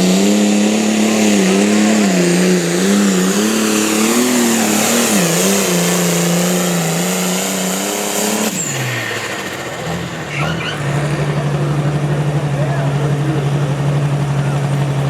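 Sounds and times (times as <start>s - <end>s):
truck engine at full throttle: 0.0s - 15.0s.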